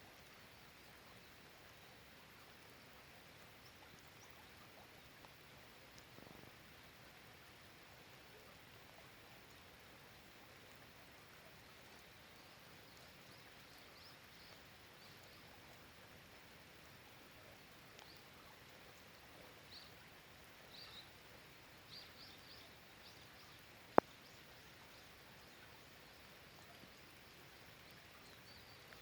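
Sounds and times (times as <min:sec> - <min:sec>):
rain hissing: 0:00.0 - 0:29.0.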